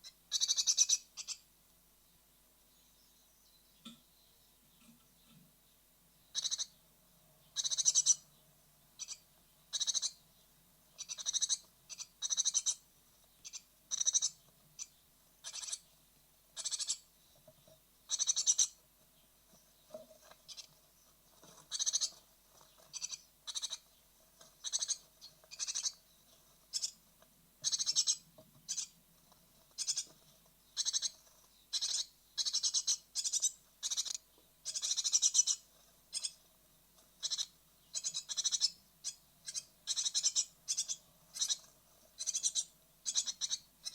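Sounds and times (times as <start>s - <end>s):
nestlings calling: 0.0s - 1.5s, 6.3s - 43.9s.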